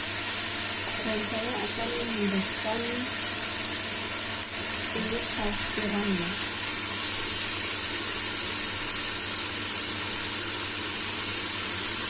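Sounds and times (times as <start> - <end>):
vegetables sizzling in pan: 0.0 - 12.0.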